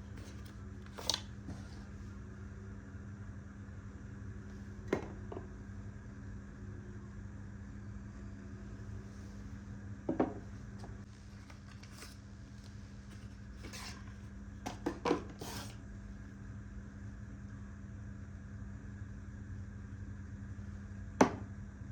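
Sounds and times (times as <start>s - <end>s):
appliance electrical hum: 0.0s - 21.9s.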